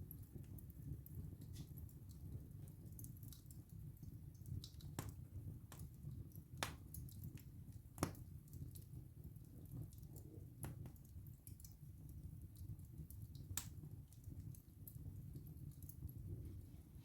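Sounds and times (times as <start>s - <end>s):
burning wood crackling and popping: 0.0s - 17.0s.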